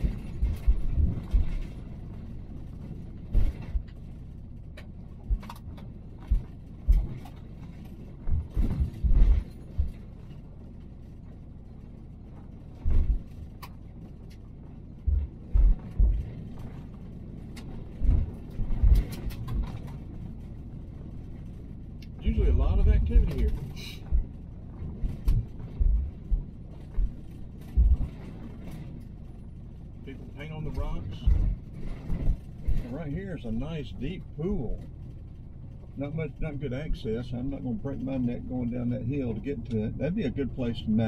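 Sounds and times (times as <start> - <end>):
thumps and rattling clicks: 0.0 - 36.5
vehicle rumbling on gravel: 0.0 - 41.0.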